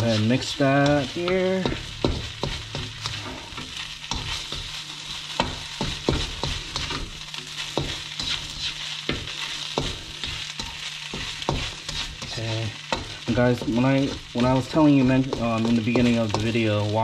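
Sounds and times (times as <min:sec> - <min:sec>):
rice sizzling in a pan: 0:00.0 - 0:17.0
spatula scraping a pan: 0:00.0 - 0:17.0
spatula tapping a pan: 0:00.6 - 0:17.0.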